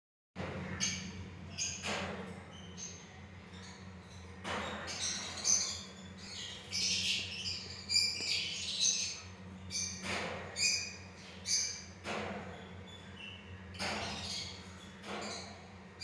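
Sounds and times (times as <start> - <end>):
lovebirds chirping and squawking: 0.6 - 16.0.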